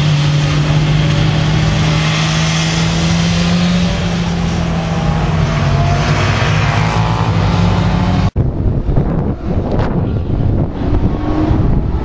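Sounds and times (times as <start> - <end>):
motorcycle engines at high revs: 0.0 - 8.4, 9.1 - 12.0.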